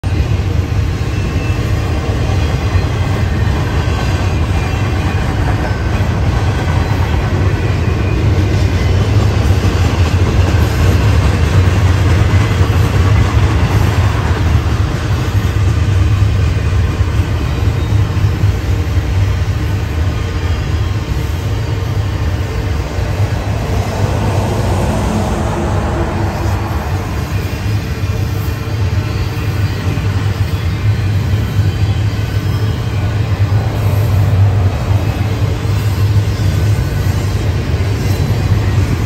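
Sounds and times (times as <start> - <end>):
freight train wheels rumbling: 0.0 - 39.0.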